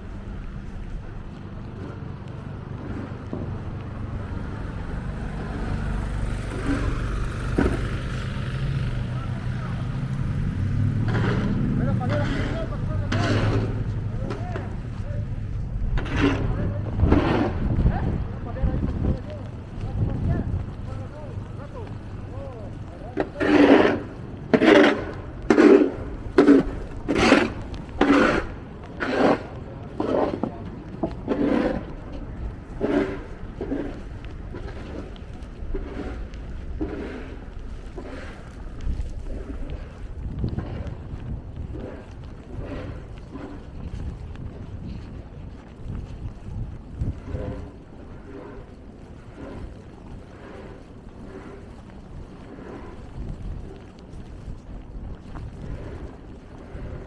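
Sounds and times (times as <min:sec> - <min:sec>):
footsteps crunching in snow: 0:00.0 - 0:57.0
vehicle engine rumble: 0:00.0 - 0:57.0.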